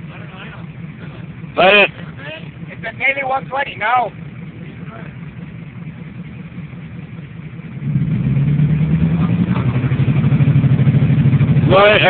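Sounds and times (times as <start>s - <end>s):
engine idling and revving: 0.0s - 12.0s.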